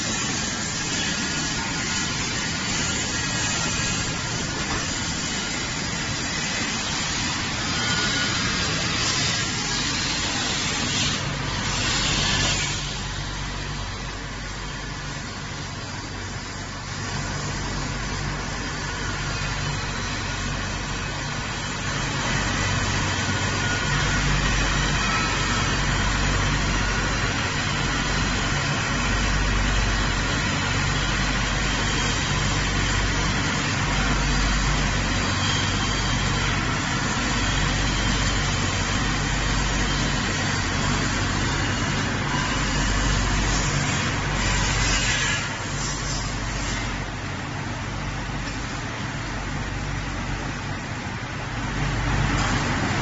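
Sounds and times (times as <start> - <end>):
low machine hum: 0.0 - 53.0.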